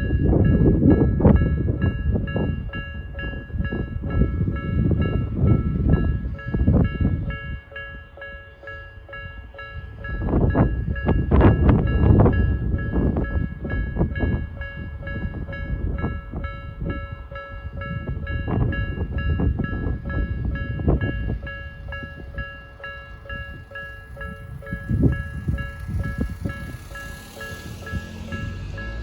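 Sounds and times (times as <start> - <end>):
level-crossing warning bell: 0.0 - 29.0
train rumbling: 0.0 - 29.0.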